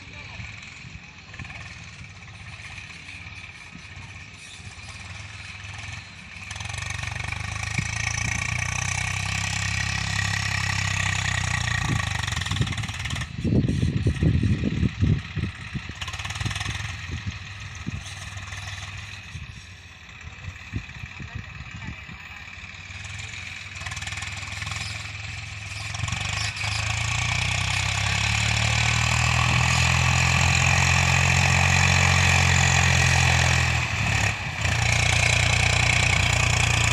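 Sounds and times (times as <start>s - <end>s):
tractor diesel engine revving: 0.0s - 36.9s.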